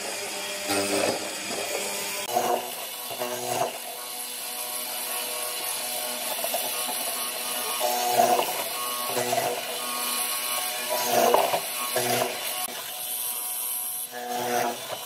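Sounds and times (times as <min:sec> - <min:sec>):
mortiser chisel cutting wood: 0:00.0 - 0:15.0.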